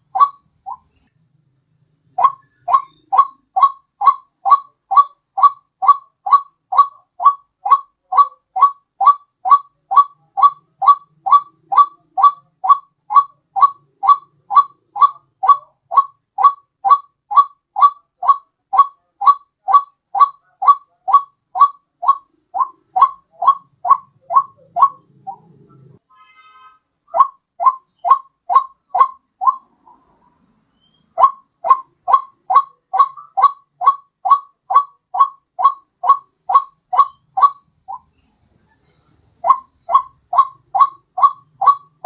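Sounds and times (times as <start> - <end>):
waterhen calling: 0.0 - 1.1, 2.1 - 26.0, 27.1 - 38.2, 39.4 - 42.0.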